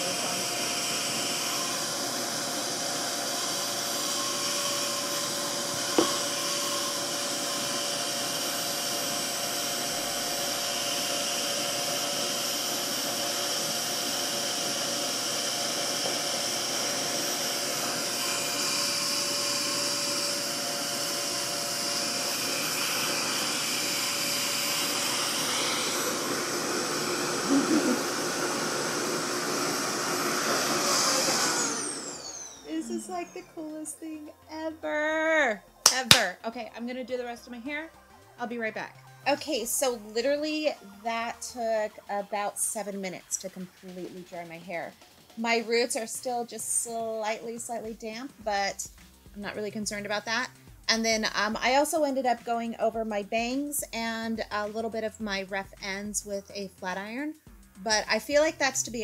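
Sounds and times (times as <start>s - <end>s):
hair dryer suction whoosh: 0.0s - 59.0s.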